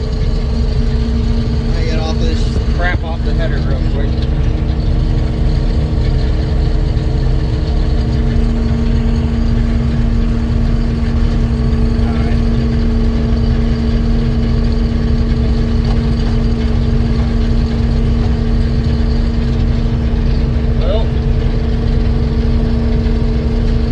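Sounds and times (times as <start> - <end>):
heavy machinery engine running: 0.0 - 23.9.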